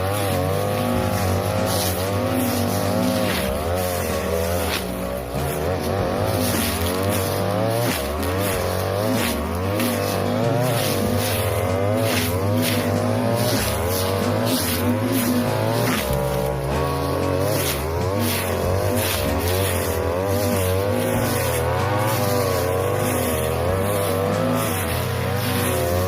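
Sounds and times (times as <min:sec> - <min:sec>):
blade swishing through grass: 0:00.0 - 0:26.0
brush cutter engine running: 0:00.0 - 0:26.0.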